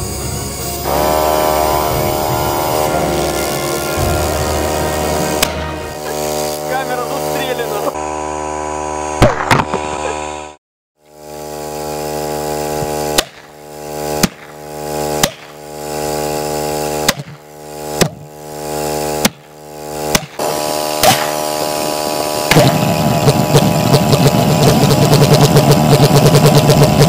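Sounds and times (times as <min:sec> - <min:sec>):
steady electric hum: 0:00.0 - 0:25.1
pulsejet firing rough pulsing: 0:00.0 - 0:27.0.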